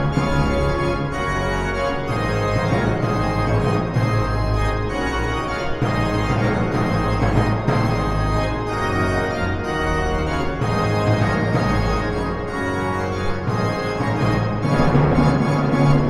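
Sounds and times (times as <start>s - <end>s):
pipe organ playing chords: 0.0s - 16.0s.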